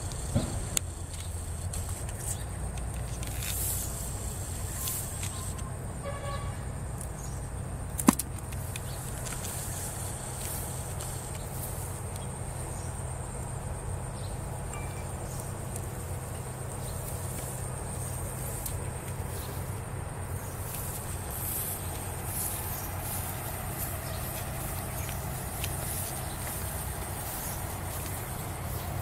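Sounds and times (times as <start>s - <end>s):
insects droning: 0.0s - 29.0s
low steady rumble: 0.0s - 29.0s
light clicks and rustles: 0.1s - 5.7s, 7.9s - 12.4s, 14.7s - 29.0s.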